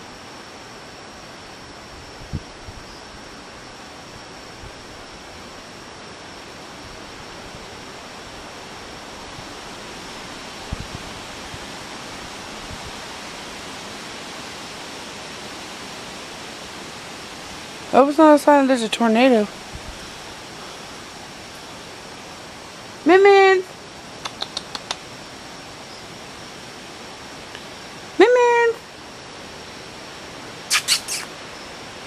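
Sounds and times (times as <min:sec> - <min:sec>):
steady outdoor night hiss: 0:00.0 - 0:32.0.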